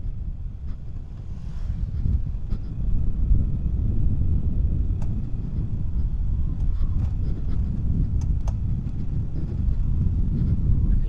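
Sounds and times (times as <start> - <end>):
tyre noise on road: 0.0 - 11.0
wind rumble on microphone: 0.0 - 11.0.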